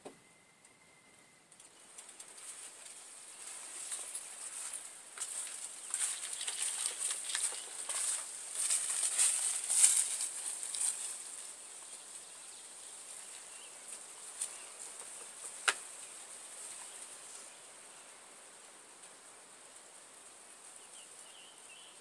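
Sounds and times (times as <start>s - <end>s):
high rustling and crackling: 1.5s - 20.8s.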